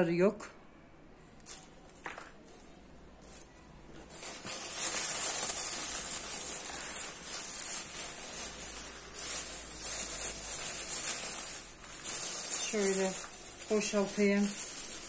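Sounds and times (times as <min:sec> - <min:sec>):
plastic bag rustling and crinkling: 0:01.4 - 0:15.0.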